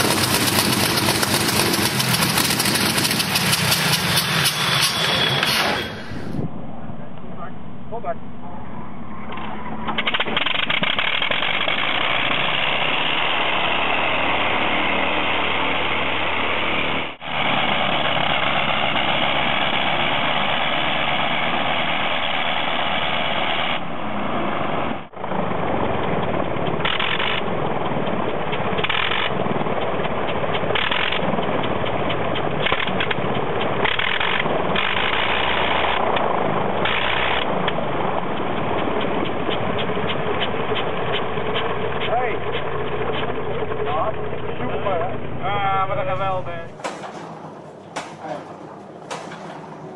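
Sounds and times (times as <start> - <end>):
rotary aero engine running: 0.0 - 49.9.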